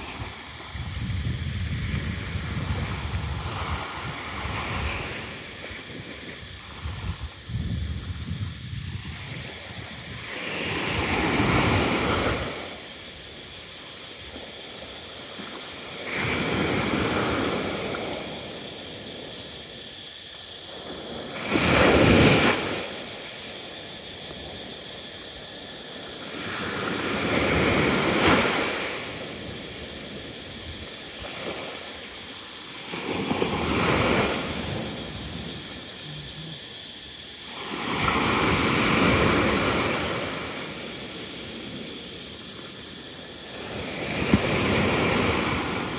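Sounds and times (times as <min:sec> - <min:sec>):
small sea waves breaking on beach: 0:00.0 - 0:07.5, 0:08.8 - 0:45.9.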